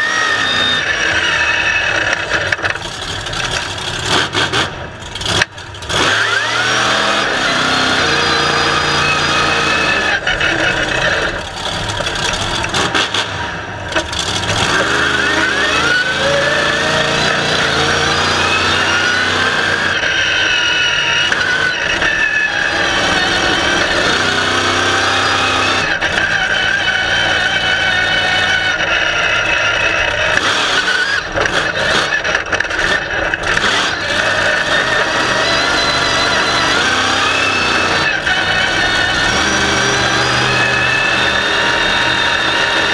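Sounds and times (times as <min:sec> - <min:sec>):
truck engine revving: 0:00.0 - 0:42.9.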